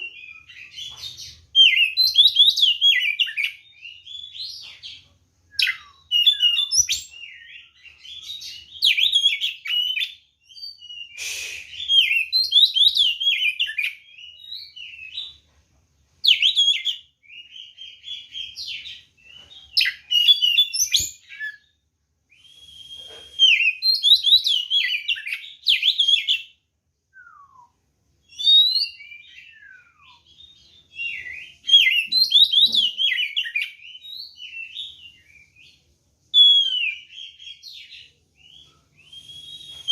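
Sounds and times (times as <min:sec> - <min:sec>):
bird singing whistled phrases: 0:00.0 - 0:04.7, 0:05.5 - 0:15.4, 0:16.2 - 0:19.0, 0:19.8 - 0:35.8, 0:36.4 - 0:39.9.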